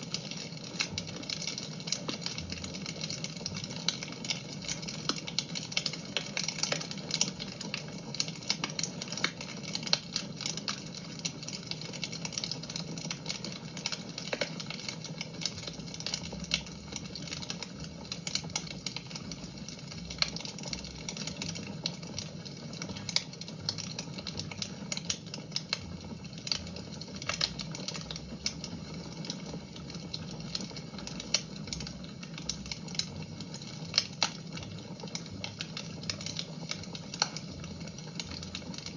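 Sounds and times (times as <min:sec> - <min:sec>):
low rumble of burning fire: 0:00.0 - 0:38.9
wood fire crackling and popping: 0:00.0 - 0:38.9.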